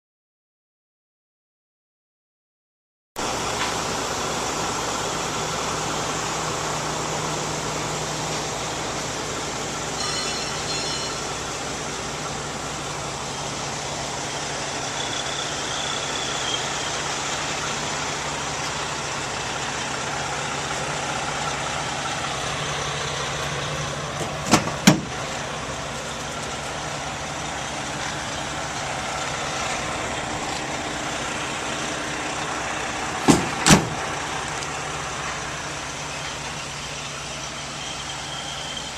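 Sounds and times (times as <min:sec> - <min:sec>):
truck engine idling: 0:03.2 - 0:38.9.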